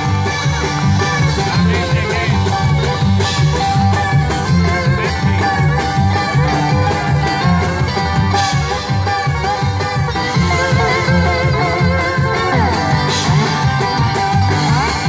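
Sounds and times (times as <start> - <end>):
acoustic guitar picking lead: 0.0 - 15.0
drums keeping time: 0.0 - 15.0
plucked upright bass: 0.0 - 15.0.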